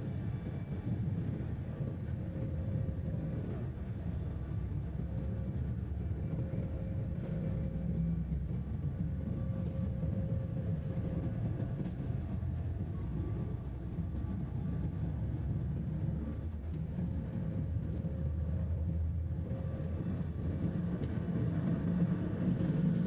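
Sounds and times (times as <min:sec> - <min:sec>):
airliner engines rumbling on runway: 0:00.0 - 0:23.0
faint steady whine: 0:00.0 - 0:23.0.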